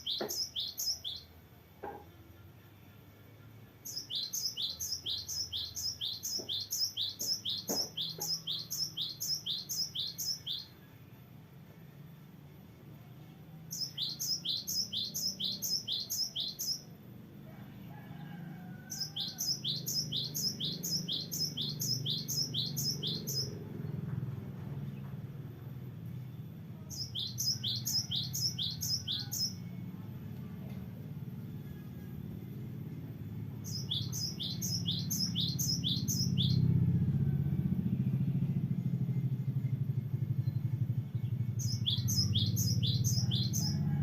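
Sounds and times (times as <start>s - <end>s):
bird singing rolling song: 0.0s - 1.4s, 2.6s - 11.3s, 13.4s - 17.1s, 18.8s - 30.2s, 31.2s - 44.0s.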